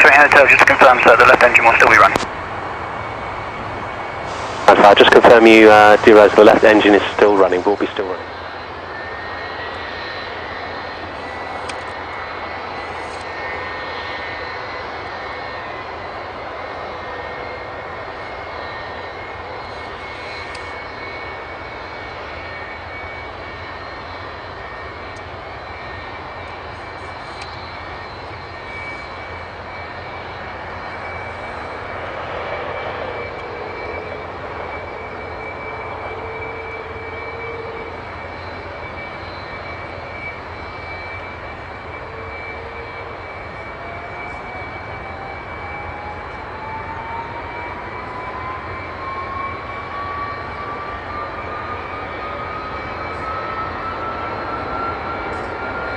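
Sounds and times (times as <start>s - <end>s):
jet engine running with whine: 0.0s - 55.9s.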